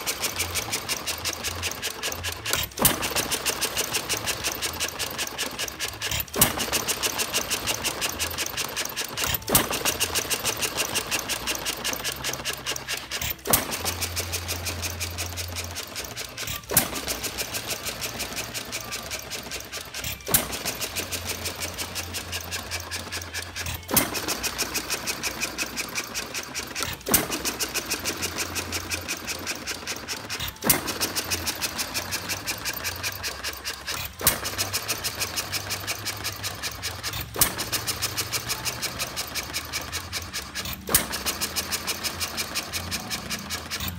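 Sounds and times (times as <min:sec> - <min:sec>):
engine parts clicking: 0:00.0 - 0:43.9.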